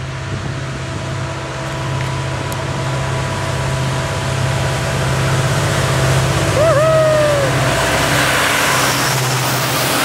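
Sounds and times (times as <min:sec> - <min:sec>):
diesel locomotive engine drone: 0:00.0 - 0:10.0.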